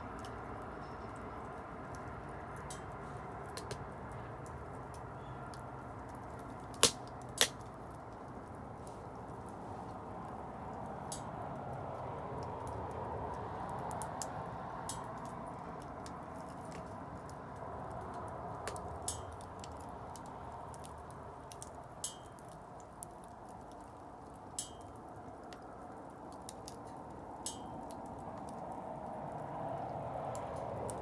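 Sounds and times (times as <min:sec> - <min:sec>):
wood crackling and popping: 0:00.0 - 0:31.0
bonfire flames rushing: 0:00.1 - 0:31.0.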